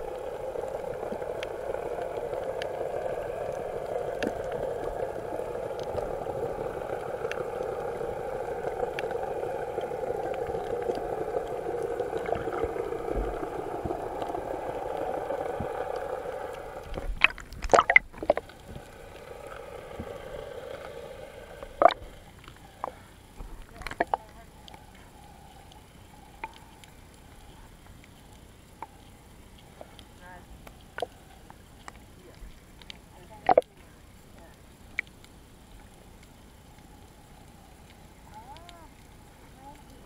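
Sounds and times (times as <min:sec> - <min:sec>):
faint ticks: 0:00.0 - 0:40.0
muffled underwater boat engine drone: 0:00.0 - 0:40.0.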